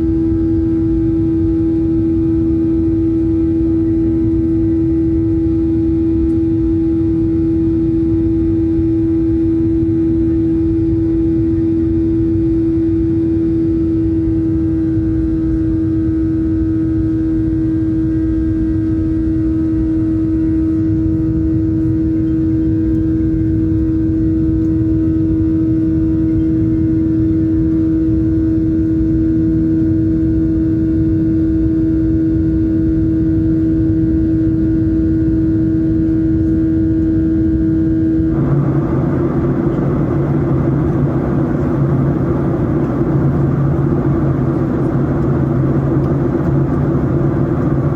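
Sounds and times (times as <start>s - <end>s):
jet engine cabin rumble: 0.0s - 47.9s.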